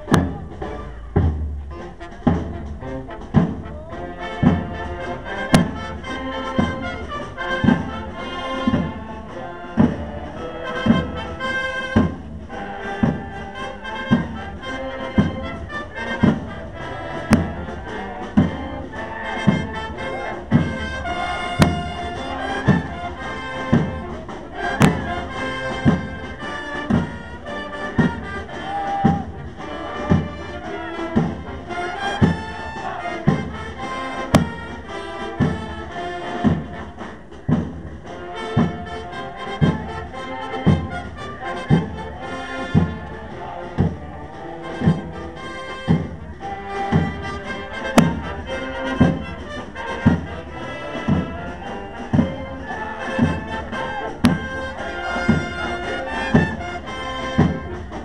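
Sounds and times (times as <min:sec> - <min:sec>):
brass band playing a march: 0:00.0 - 0:58.0
heavy drum beats: 0:00.0 - 0:58.0.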